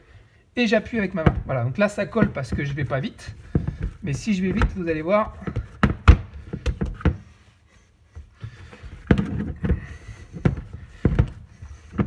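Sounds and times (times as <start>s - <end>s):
dough kneaded in plastic bowl: 0.6s - 7.5s, 8.2s - 12.0s.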